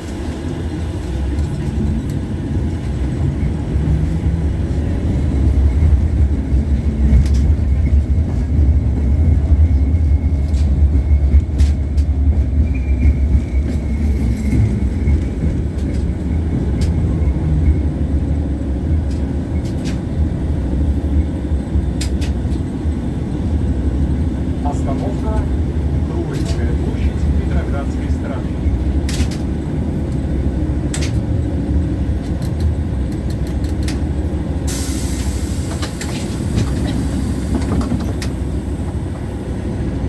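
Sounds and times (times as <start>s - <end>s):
tram wheels rumbling on rails: 0.0s - 40.0s.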